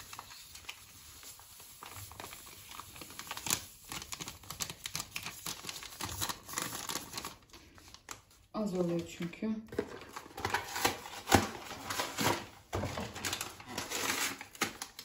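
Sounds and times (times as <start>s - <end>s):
paper sachet crinkling: 0.0s - 9.1s, 10.0s - 15.0s.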